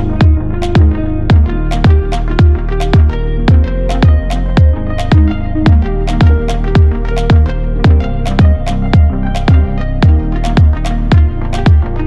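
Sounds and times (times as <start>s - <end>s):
held synth notes: 0.0s - 12.0s
steady kick drum: 0.0s - 12.0s.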